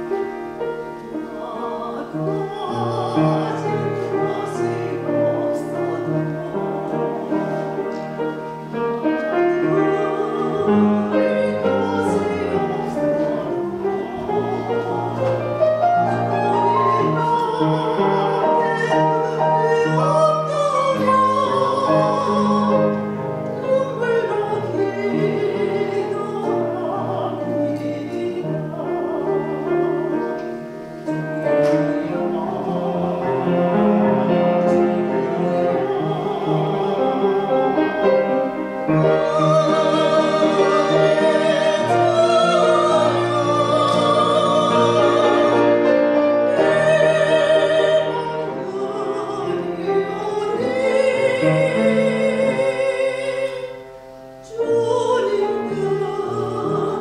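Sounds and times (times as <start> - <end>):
cello: 0.0 - 57.0
piano: 0.0 - 57.0
soprano singing operatically: 0.0 - 57.0.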